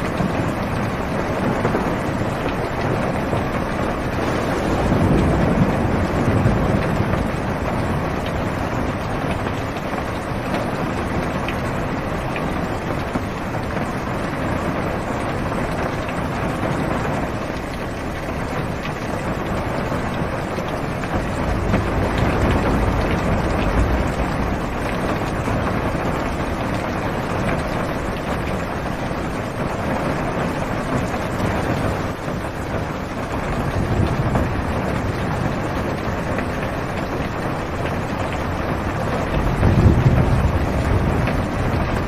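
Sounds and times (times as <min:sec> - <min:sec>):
heavy rain on car roof: 0:00.0 - 0:42.0
thunder rumbling: 0:00.0 - 0:42.0.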